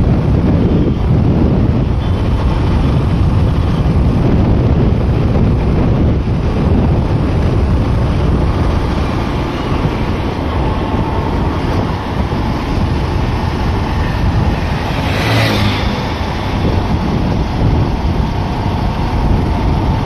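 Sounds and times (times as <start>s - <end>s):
motorcycle engine and road noise: 0.0s - 20.0s
motorcycle passing close by: 0.0s - 20.0s
wind buffeting microphone: 0.0s - 20.0s.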